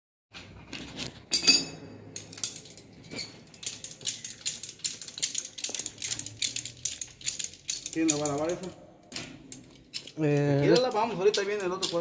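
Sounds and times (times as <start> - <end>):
hand tool clinking on brass fitting: 1.3 - 12.0.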